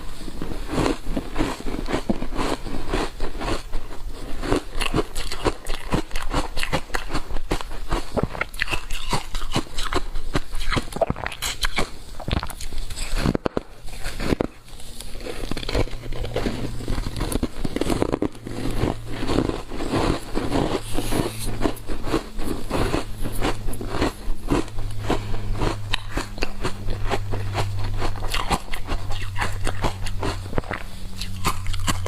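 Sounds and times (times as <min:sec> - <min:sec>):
crunching frozen ice: 0:00.0 - 0:32.0
low steady hum: 0:00.0 - 0:32.0.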